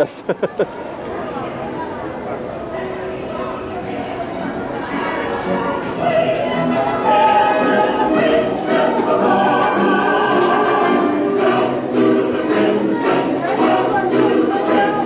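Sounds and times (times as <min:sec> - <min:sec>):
choir singing long notes: 0:02.7 - 0:15.0.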